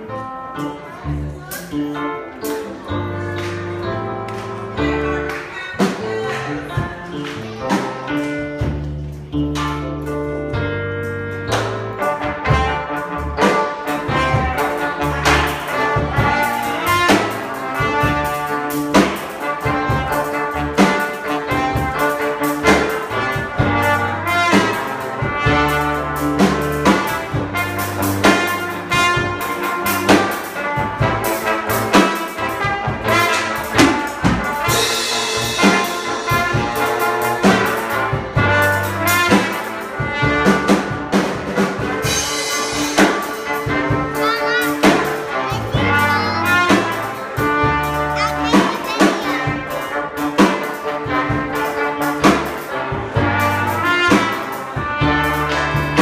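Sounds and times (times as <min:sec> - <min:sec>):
drum kit beat: 0:01.5 - 0:56.0
trumpet and trombone playing: 0:07.7 - 0:56.0.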